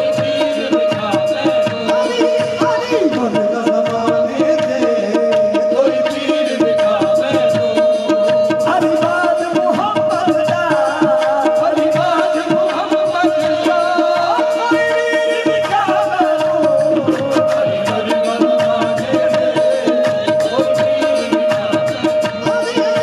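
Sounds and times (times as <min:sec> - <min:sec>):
men singing: 0:00.0 - 0:23.0
tabla drumming: 0:00.0 - 0:23.0.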